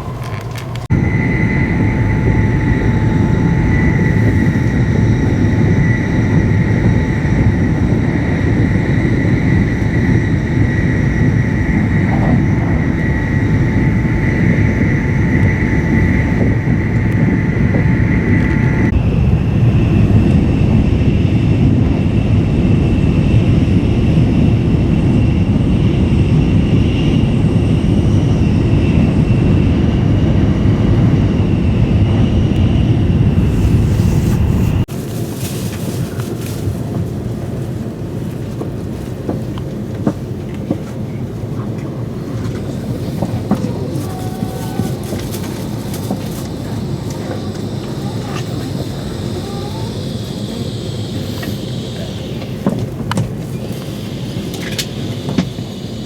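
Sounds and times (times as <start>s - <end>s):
thin high whine: 0.0s - 36.8s, 42.1s - 56.0s
train running rumble: 0.0s - 56.0s.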